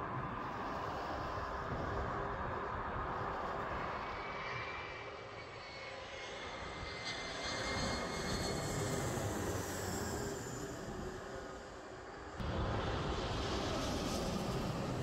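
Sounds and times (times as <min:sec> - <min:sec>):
jet engines whining overhead: 0:00.0 - 0:15.0.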